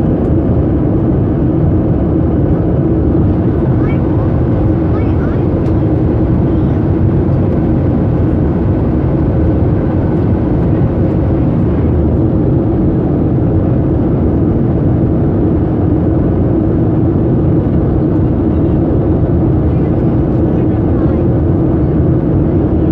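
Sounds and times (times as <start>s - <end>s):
jet engines roaring: 0.0s - 22.9s
steady low hum: 0.0s - 22.9s.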